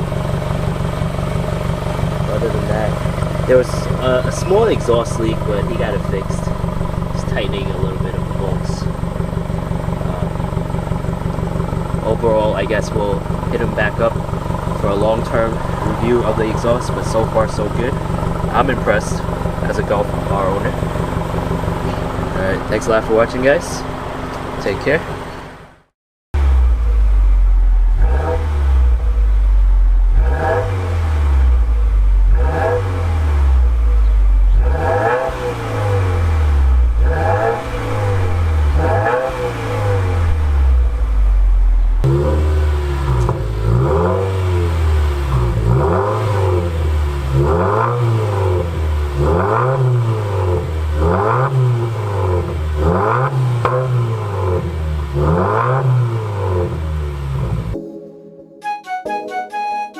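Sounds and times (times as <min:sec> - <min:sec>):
car engine revving: 0:00.0 - 0:57.8.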